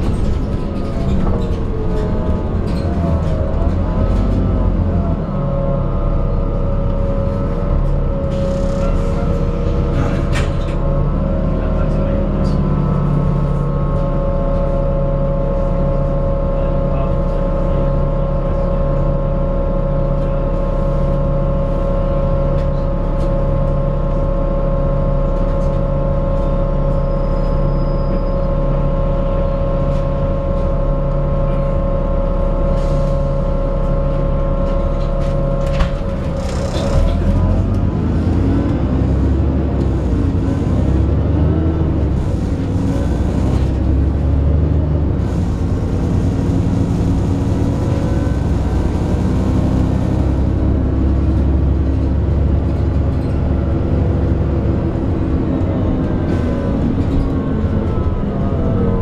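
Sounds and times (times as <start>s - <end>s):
bus accelerating: 0.0s - 59.0s
bus engine idling: 0.0s - 59.0s.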